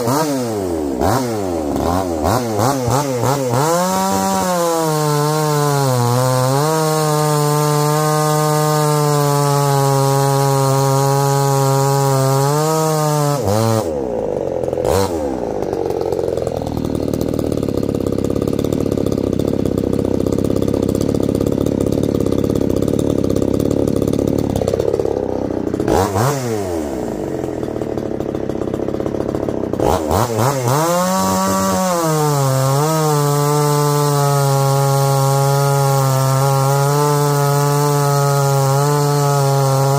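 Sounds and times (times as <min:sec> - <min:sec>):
chainsaw cutting a log: 0:00.0 - 0:39.9
chainsaw idling: 0:00.0 - 0:39.9.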